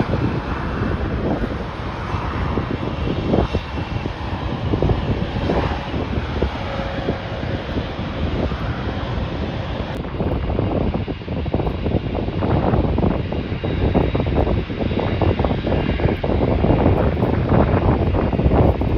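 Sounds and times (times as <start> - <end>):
airliner engine noise: 0.0 - 18.9
wind buffeting microphone: 0.0 - 18.9.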